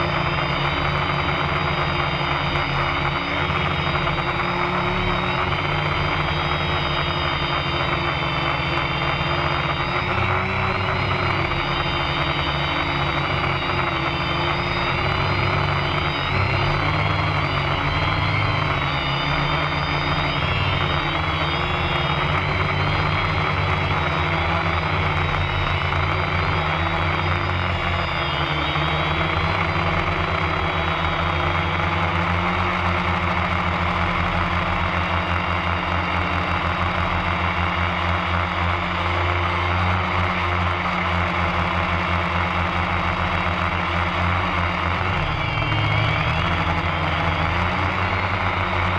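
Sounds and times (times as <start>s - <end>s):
electric motor whine: 0.0s - 48.9s
low hum: 0.0s - 48.9s.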